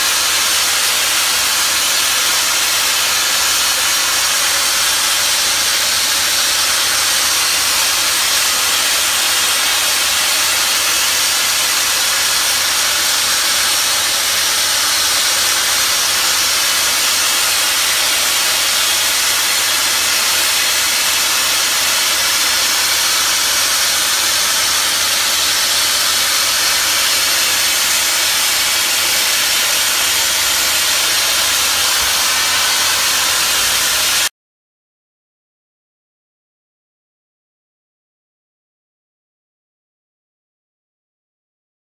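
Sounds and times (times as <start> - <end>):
high-pressure abrasive blasting hiss: 0.0 - 34.3.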